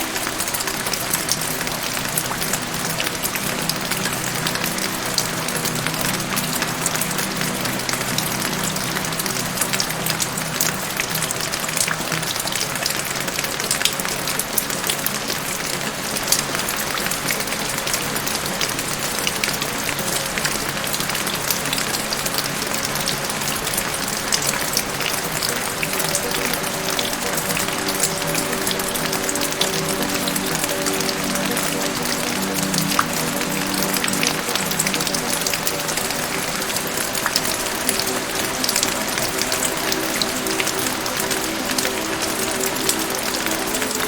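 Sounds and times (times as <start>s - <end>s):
soft music pad: 0.0s - 44.0s
steady rain: 0.0s - 44.0s.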